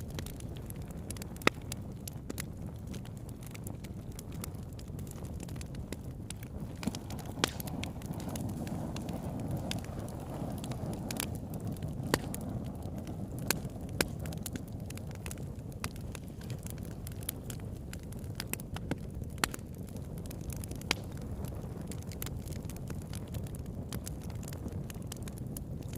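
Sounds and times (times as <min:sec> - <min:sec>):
low rush of flame: 0:00.0 - 0:25.9
wood crackling and popping: 0:00.0 - 0:25.9.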